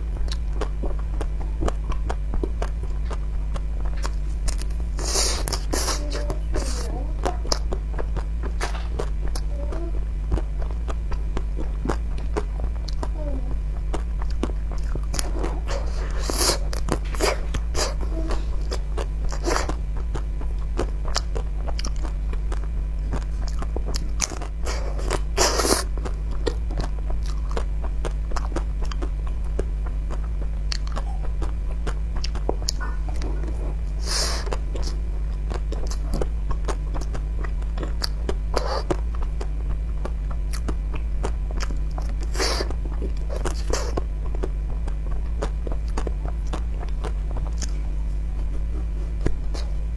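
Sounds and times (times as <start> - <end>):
steady low hum: 0.0 - 49.9
ice cream shell crunching: 0.1 - 49.9.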